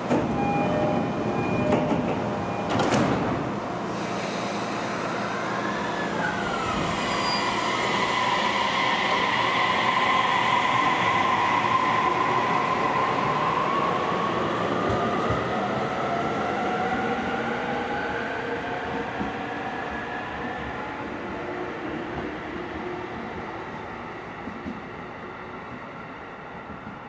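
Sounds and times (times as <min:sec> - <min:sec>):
rail and wheel noise: 0:00.0 - 0:27.0.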